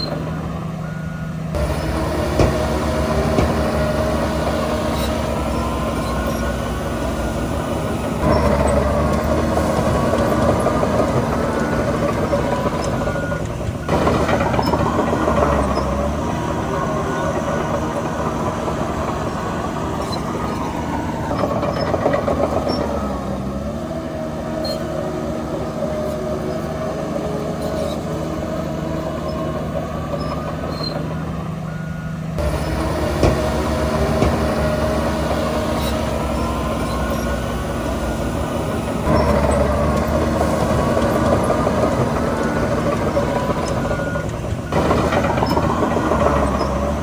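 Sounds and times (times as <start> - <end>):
heavy diesel machinery engines: 0.0 - 47.0.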